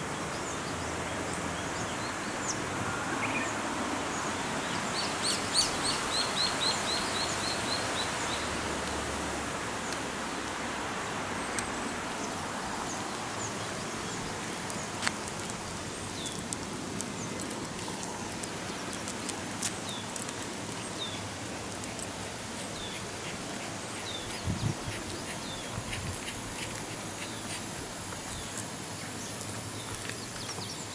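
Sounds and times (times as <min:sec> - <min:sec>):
steady background hiss: 0:00.0 - 0:30.9.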